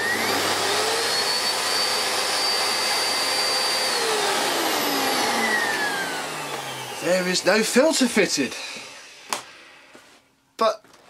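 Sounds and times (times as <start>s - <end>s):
vacuum cleaner motor whine: 0.0s - 9.9s.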